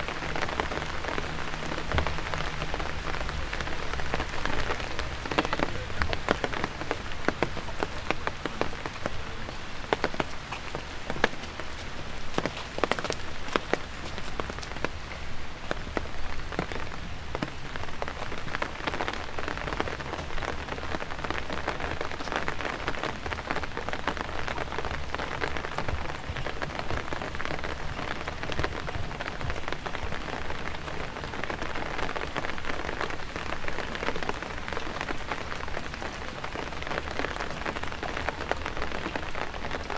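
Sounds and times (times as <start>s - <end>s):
rain drops hitting: 0.0s - 39.9s
steady rain hiss: 0.0s - 39.9s.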